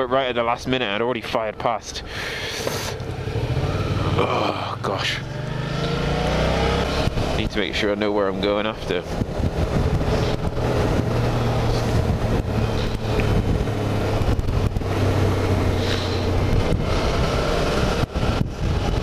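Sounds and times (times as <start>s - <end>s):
motorcycle engine running: 2.6s - 19.0s
wind rushing over microphone: 2.9s - 19.0s.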